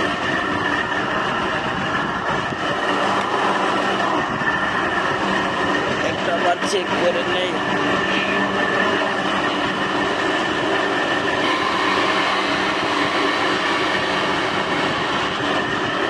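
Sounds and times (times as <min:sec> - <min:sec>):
air conditioner compressor hum: 0:00.0 - 0:16.0.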